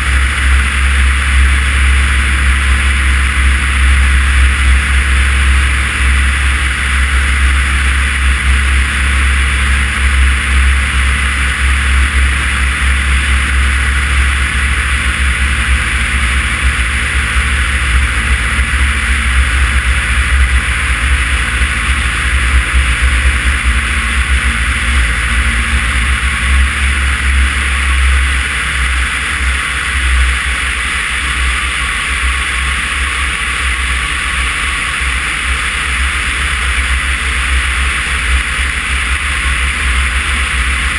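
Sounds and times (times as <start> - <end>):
light plane engine and propeller drone: 0.0 - 40.9.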